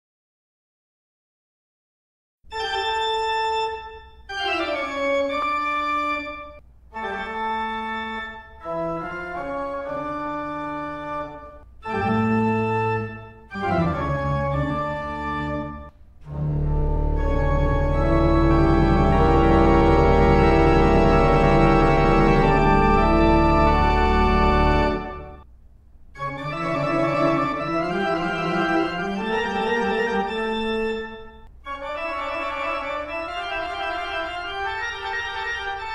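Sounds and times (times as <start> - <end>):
organ chords: 2.5 - 25.5, 26.2 - 35.9.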